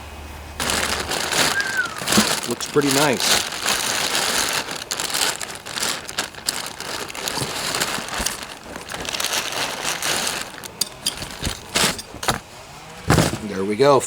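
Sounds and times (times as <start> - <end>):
packaging crinkling and rustling: 0.6 - 13.7.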